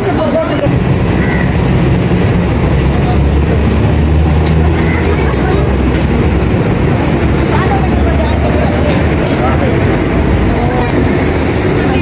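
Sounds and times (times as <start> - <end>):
cars passing by: 0.0 - 12.0
heavy engine drone: 0.0 - 12.0.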